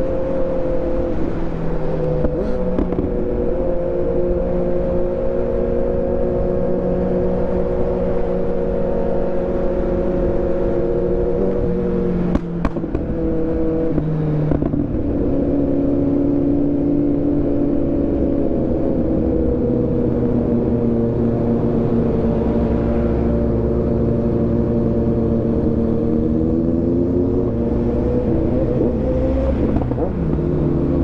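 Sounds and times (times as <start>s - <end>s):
motorcycle engine running steadily: 0.0s - 31.0s.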